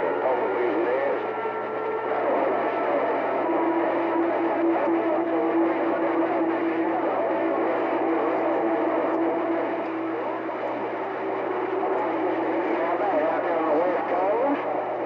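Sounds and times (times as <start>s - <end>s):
faint warbling radio signals: 0.0s - 15.0s
radio static: 0.0s - 15.0s.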